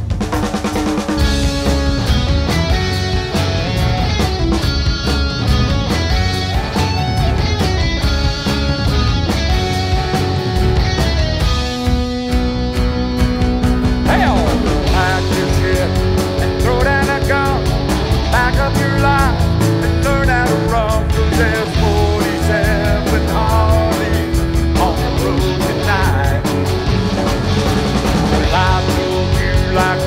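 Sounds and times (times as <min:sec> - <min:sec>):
bass: 0:00.0 - 0:30.0
drums: 0:00.0 - 0:30.0
electric guitar lead: 0:01.0 - 0:30.0.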